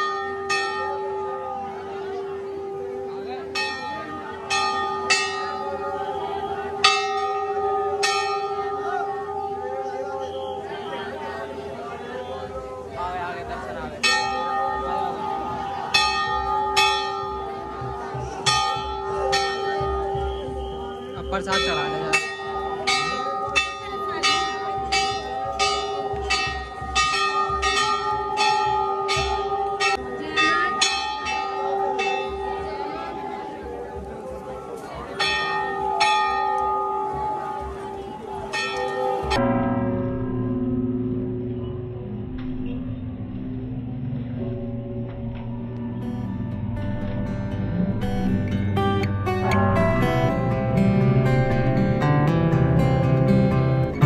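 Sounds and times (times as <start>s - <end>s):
metal temple bell ringing: 0.0s - 46.0s, 48.8s - 54.0s.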